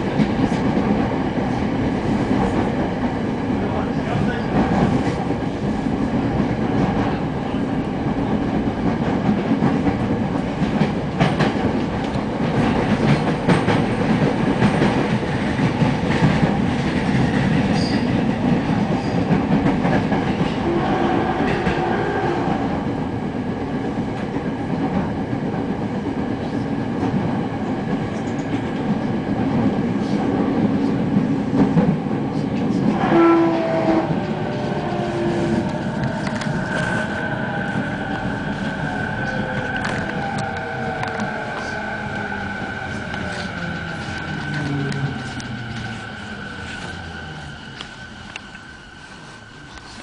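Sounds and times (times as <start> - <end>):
rail joint clicks: 0.0 - 22.2, 26.4 - 29.1, 29.9 - 48.7
train wheels rumbling on rail: 0.0 - 50.0.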